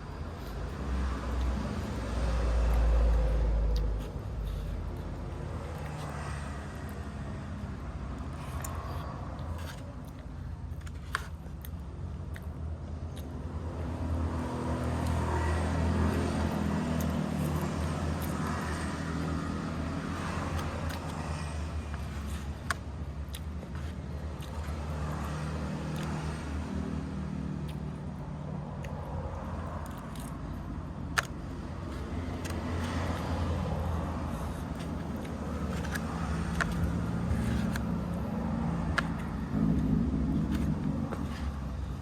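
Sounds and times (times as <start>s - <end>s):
low engine hum: 0.0s - 42.0s.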